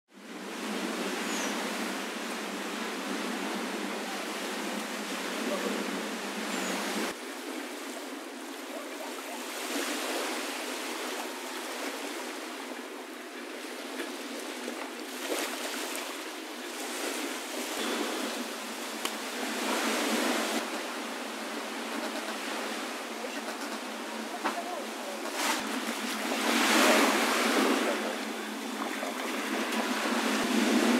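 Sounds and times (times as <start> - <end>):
waves lapping on a beach: 0.1 - 30.9.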